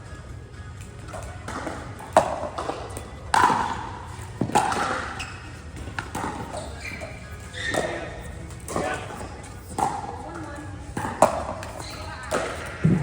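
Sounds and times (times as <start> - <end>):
paddles hitting pickleball: 1.0 - 13.0
ball bouncing: 1.1 - 13.0.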